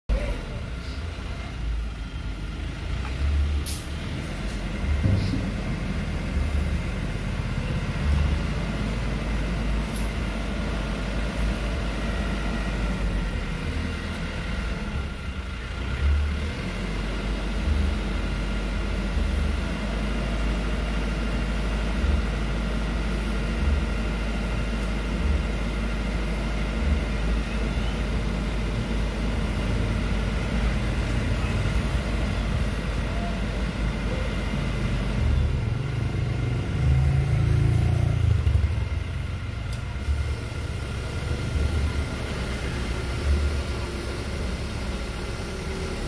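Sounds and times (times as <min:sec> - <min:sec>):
truck engine running: 0:00.1 - 0:46.0.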